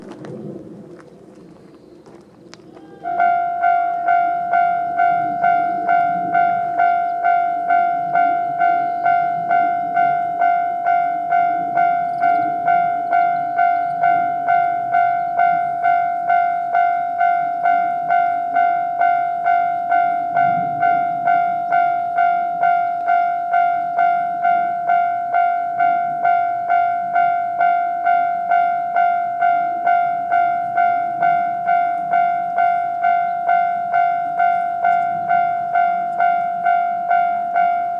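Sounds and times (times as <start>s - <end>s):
level-crossing alarm bell: 2.8s - 37.9s.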